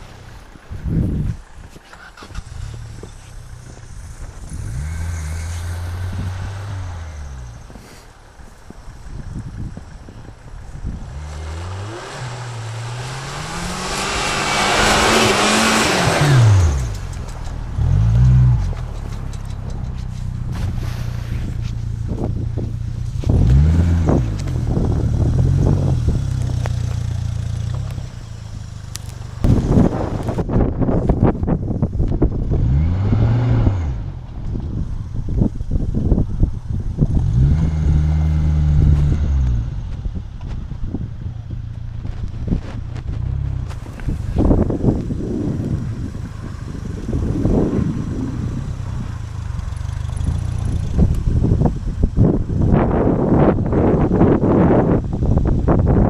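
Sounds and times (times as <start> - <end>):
off-road vehicle engine revving: 2.0 - 8.1, 10.5 - 56.0.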